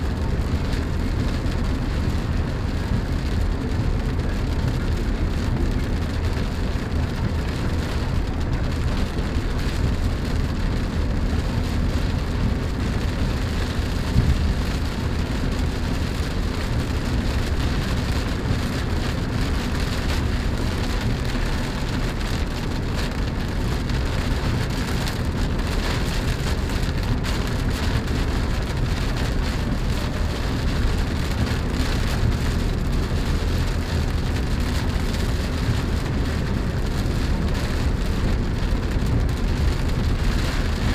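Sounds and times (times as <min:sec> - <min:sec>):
low rumble of car on road: 0:00.0 - 0:40.9
rain on car roof and glass: 0:00.0 - 0:40.9.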